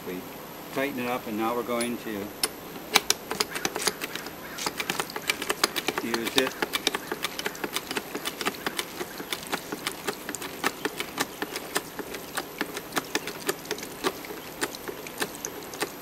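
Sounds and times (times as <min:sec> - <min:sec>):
hydraulic jack pump clicking: 0:01.8 - 0:16.0.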